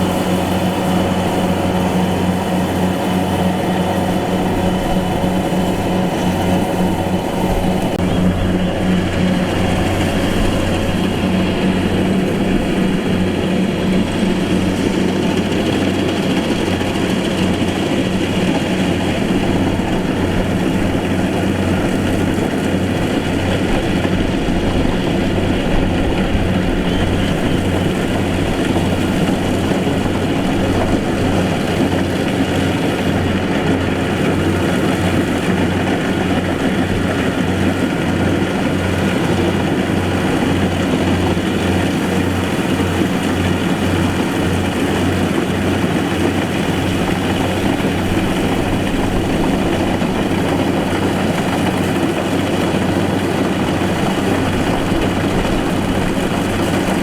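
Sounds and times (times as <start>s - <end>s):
farm machine engine droning: 0.0s - 57.0s.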